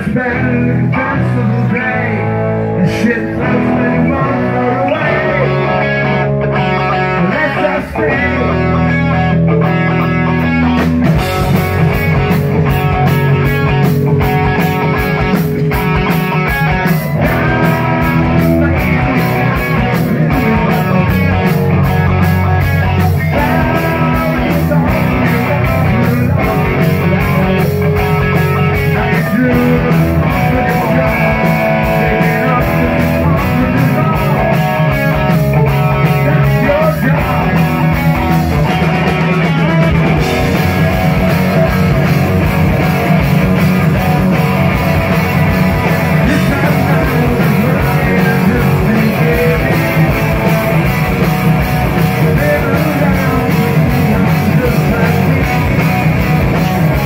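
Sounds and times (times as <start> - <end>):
man singing: 0.0 - 9.8, 12.9 - 42.4, 45.7 - 56.2
bass guitar: 0.0 - 57.0
distorted electric guitars: 0.0 - 57.0
fast drumbeat: 10.7 - 57.0.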